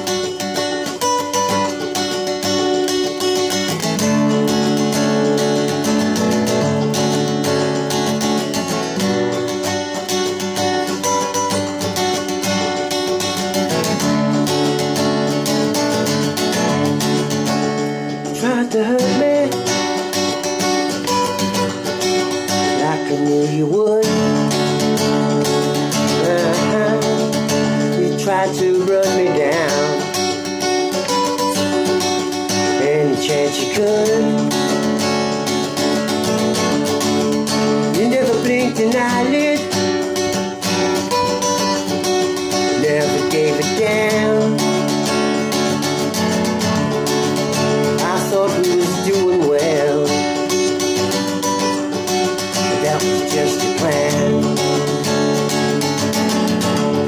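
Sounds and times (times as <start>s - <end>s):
acoustic guitar chords: 0.0s - 57.0s.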